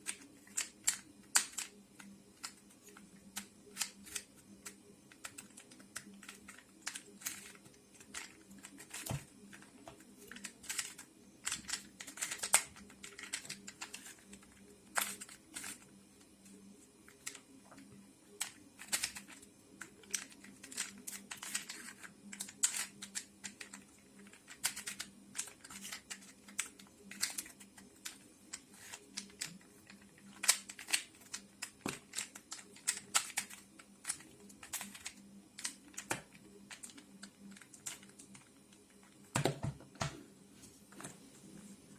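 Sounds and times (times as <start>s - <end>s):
puzzle cube clicking: 0.0s - 15.9s, 18.4s - 38.4s
faint steady hum: 0.0s - 41.9s.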